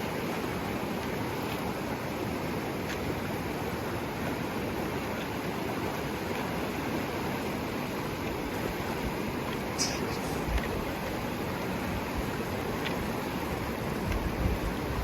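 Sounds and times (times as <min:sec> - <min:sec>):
mountain creek rushing: 0:00.0 - 0:15.0.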